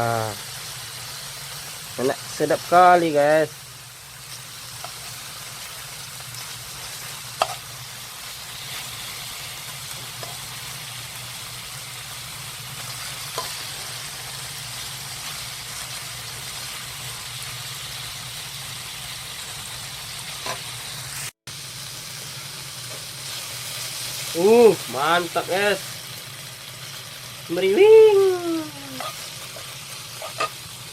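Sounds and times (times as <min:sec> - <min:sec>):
food sizzling in a pan: 0:00.0 - 0:30.9.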